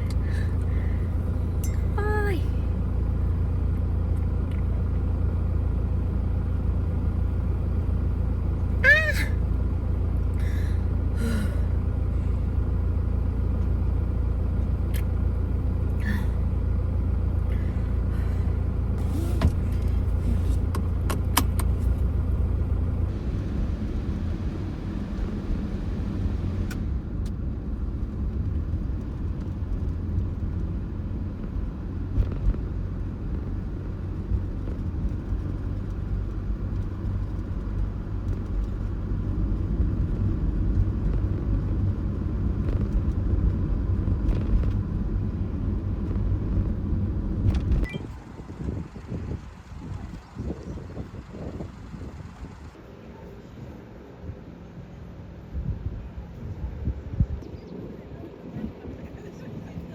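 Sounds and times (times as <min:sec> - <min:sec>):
van engine rumble: 0:00.0 - 0:59.9.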